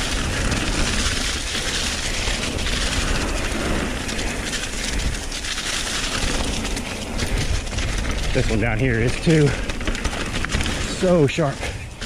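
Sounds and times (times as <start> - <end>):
bike chain and frame rattling: 0.0 - 12.0
tyres rolling over dirt: 0.0 - 12.0
wind rumbling on microphone: 0.0 - 12.0.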